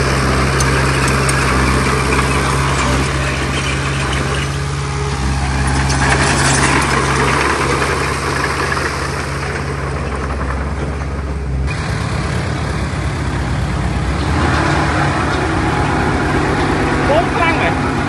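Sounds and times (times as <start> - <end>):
heavy diesel machinery engine: 0.0 - 18.0.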